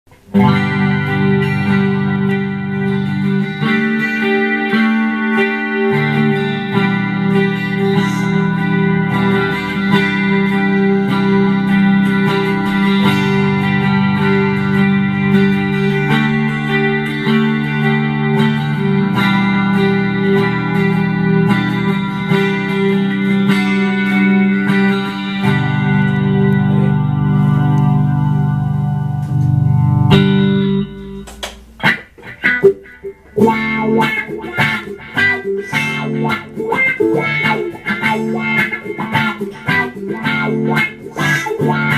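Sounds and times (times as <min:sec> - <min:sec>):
electric guitar playing: 0:00.1 - 0:41.9.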